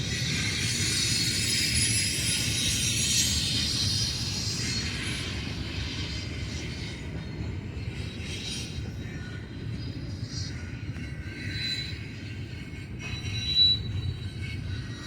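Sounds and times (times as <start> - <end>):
faint wheel squeal: 0.1 - 15.0.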